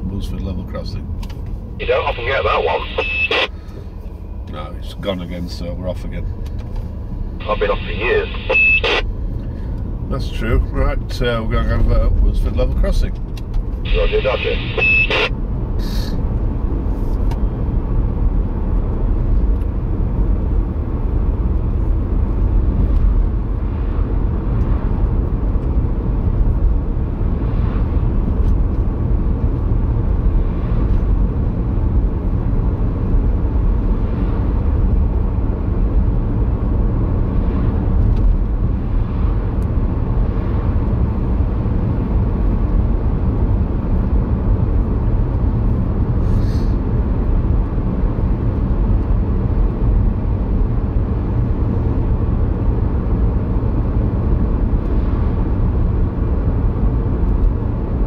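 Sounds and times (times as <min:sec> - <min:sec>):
car tyre and engine rumble: 0:00.0 - 0:58.0.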